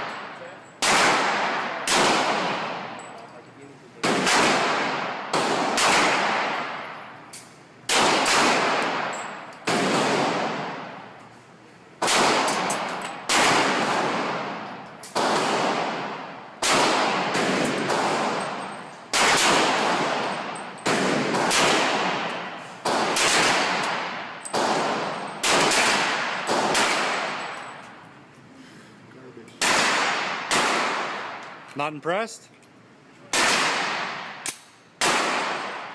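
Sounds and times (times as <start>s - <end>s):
pistol shots echoing: 0.0s - 3.1s, 4.0s - 7.0s, 7.9s - 11.1s, 12.0s - 27.6s, 29.6s - 31.6s, 33.3s - 35.9s.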